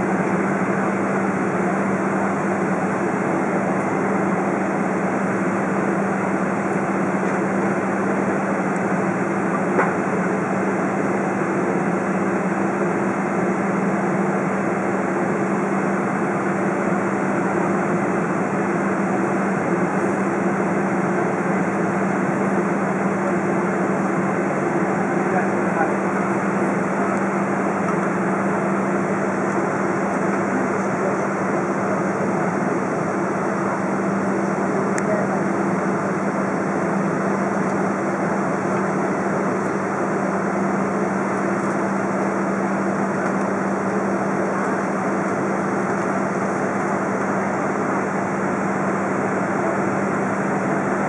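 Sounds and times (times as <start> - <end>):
jet engines humming: 0.0 - 51.0.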